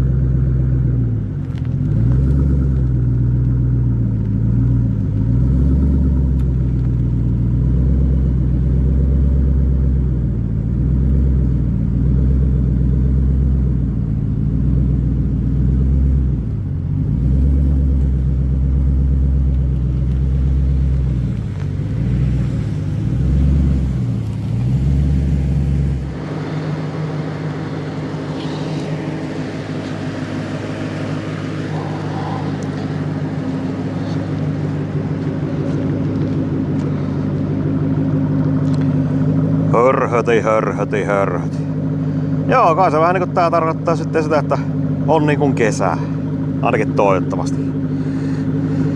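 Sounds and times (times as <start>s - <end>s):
car engine rumbling at low revs: 0.0s - 48.9s.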